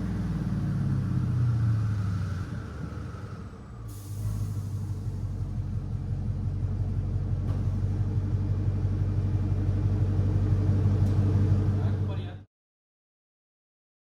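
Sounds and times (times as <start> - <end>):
pickup truck engine rumbling: 0.0 - 12.3.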